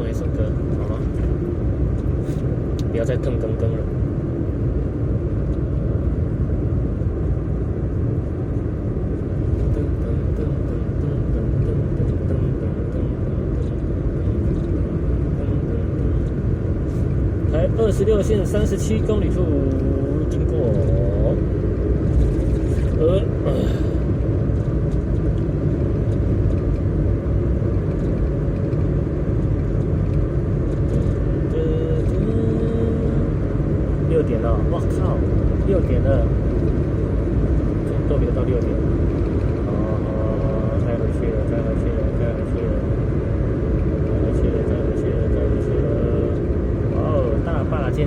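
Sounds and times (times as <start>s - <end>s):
car engine and tyre noise: 0.0s - 48.0s.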